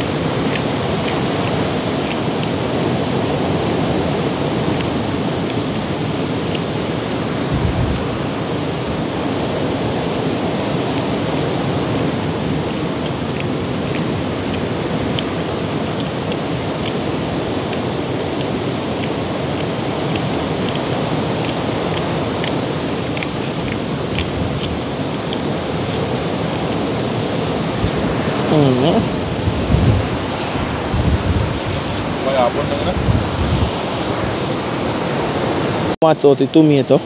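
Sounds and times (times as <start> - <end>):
loud steady rushing noise: 0.0 - 36.9.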